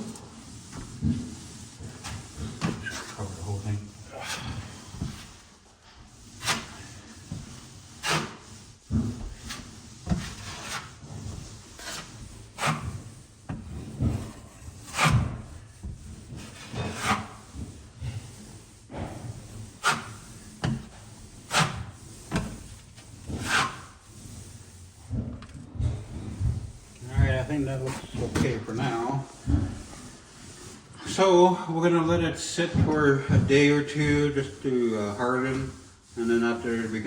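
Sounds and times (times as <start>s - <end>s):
drywall knife scraping: 0.0s - 37.0s.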